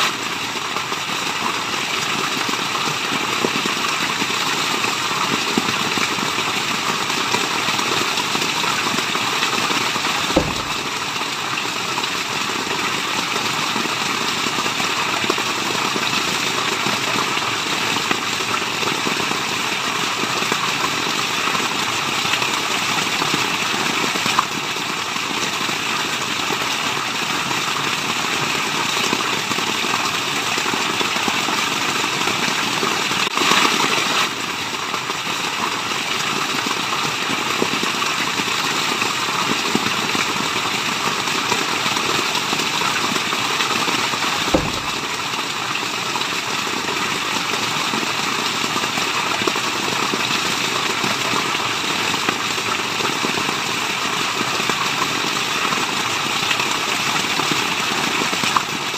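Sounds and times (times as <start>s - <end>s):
falling water rushing: 0.0s - 27.2s, 32.1s - 58.9s.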